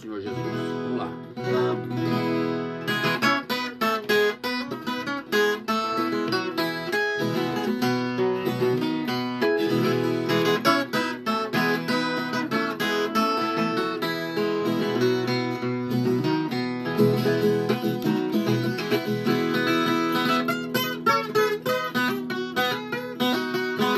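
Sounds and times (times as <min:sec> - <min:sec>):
guitar strummed and picked: 0:00.0 - 0:23.9.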